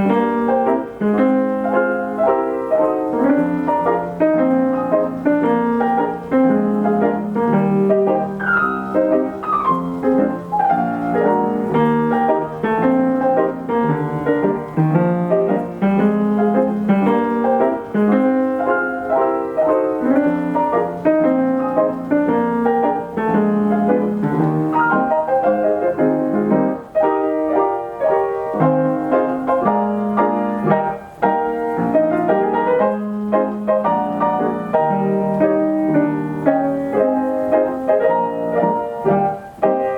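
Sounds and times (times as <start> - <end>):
player piano popular song: 0.0 - 39.9.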